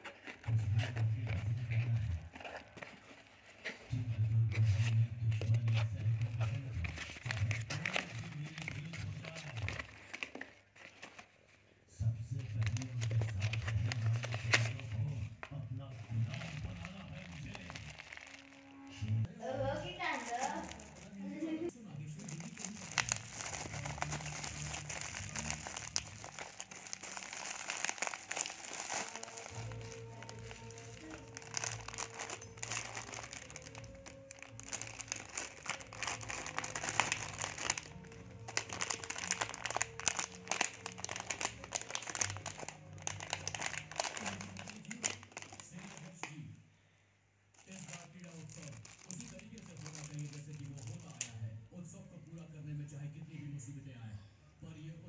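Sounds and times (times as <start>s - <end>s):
bubble wrap crinkling: 0.0s - 46.4s, 47.5s - 51.4s
cardboard and paper rustling: 0.0s - 46.4s, 47.6s - 51.3s.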